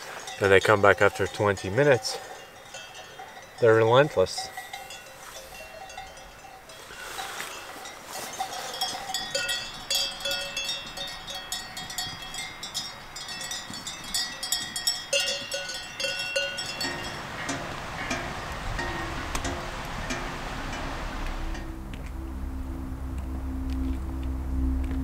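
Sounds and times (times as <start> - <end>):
cattle bells clanking: 0.0 - 21.8.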